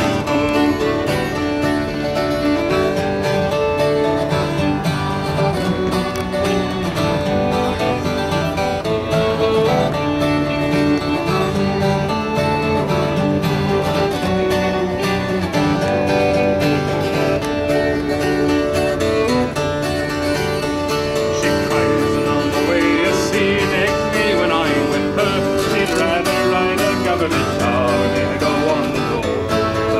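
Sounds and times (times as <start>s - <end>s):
fiddle: 0.0s - 29.9s
strummed acoustic guitar: 0.0s - 29.9s.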